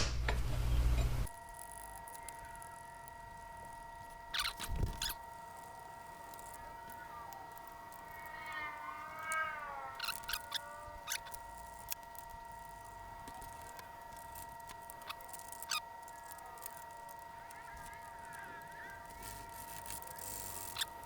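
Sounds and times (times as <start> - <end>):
faint steady tones: 0.2 - 21.0
wavering animal-like call: 1.6 - 21.0.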